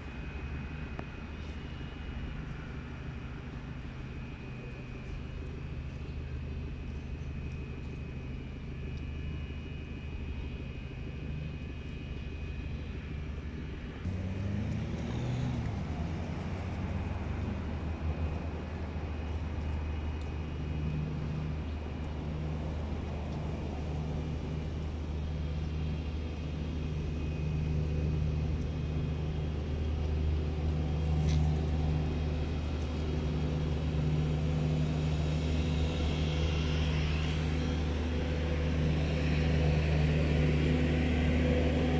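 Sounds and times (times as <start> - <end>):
low engine drone: 0.0 - 41.9.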